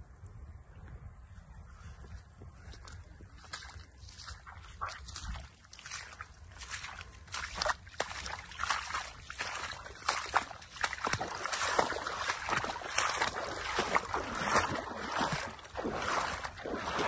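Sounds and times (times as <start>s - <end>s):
rustling wet grass: 1.3s - 17.0s
footsteps splashing in shallow water: 1.8s - 17.0s.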